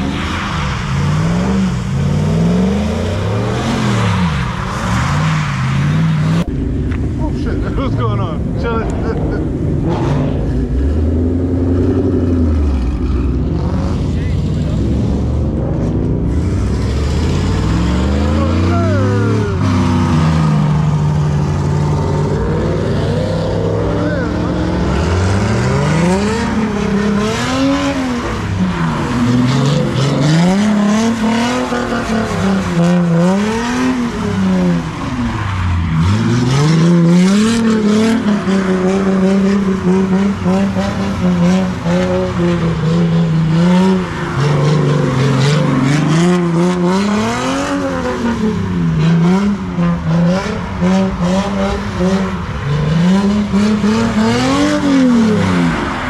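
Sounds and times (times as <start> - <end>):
car engine revving hard: 0.0 - 6.5, 7.4 - 56.0.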